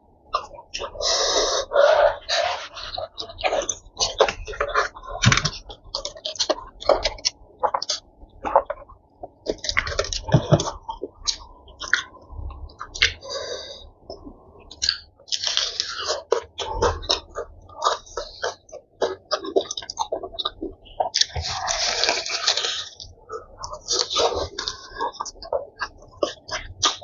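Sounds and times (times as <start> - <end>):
chewing and lip smacks: 1.8 - 27.0.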